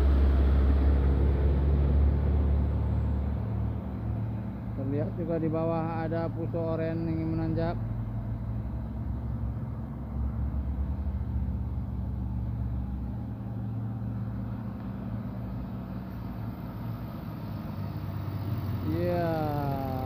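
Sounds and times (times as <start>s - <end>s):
diesel truck engines droning: 0.0s - 20.0s.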